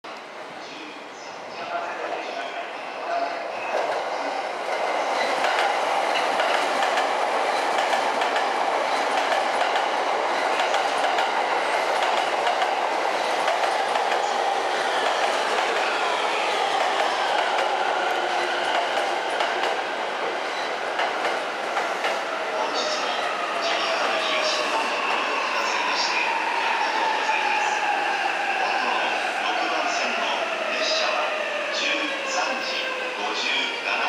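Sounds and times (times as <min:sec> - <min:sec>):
electric train rolling past: 0:02.3 - 0:29.8.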